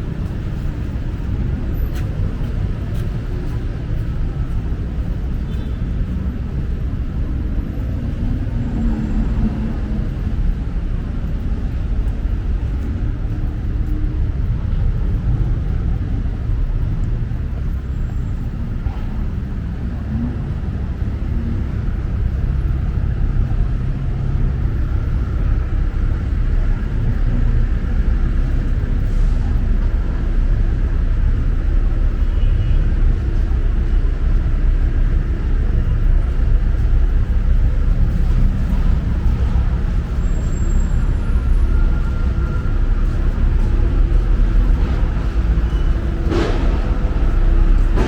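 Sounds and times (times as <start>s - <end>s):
city street traffic rumble: 0.0s - 48.0s.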